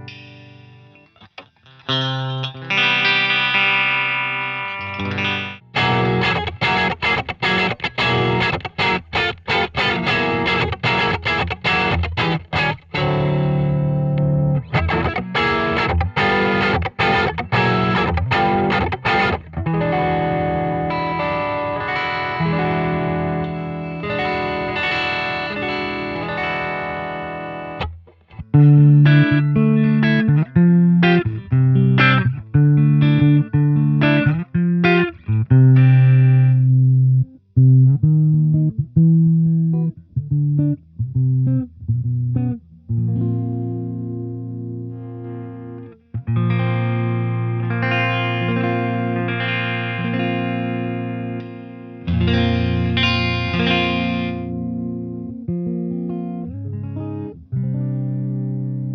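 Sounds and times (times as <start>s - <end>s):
electric guitar playing: 0.0s - 58.9s.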